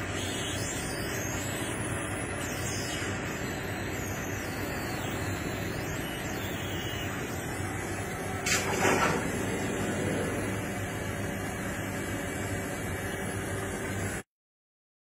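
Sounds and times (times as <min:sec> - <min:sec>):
machine hum: 0:00.0 - 0:14.2.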